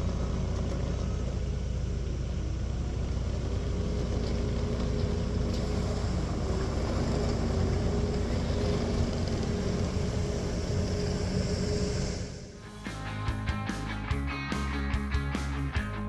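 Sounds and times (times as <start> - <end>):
diesel loader engine running: 0.0 - 16.0.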